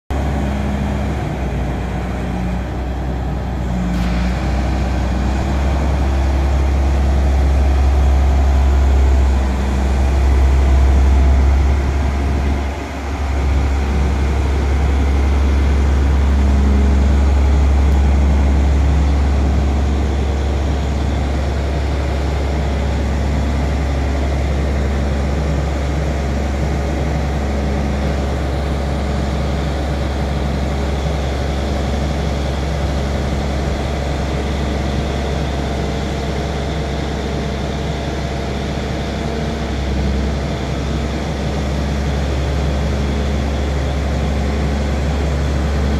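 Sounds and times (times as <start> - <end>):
crane diesel engine running: 0.1 - 45.9.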